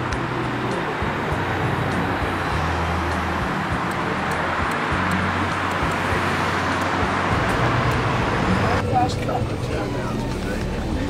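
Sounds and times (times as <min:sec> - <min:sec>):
engine rumble: 0:00.0 - 0:11.0
passing cars: 0:00.0 - 0:11.0.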